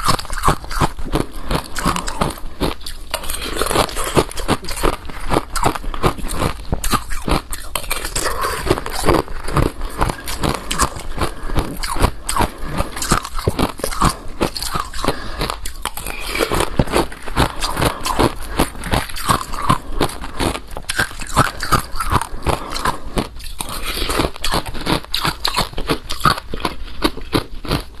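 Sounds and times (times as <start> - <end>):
ice crunching while chewed: 0.0 - 28.0.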